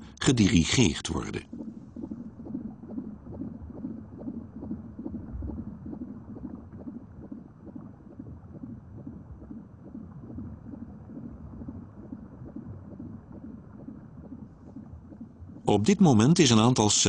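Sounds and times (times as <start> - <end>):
low muffled rumbling: 0.0 - 17.0.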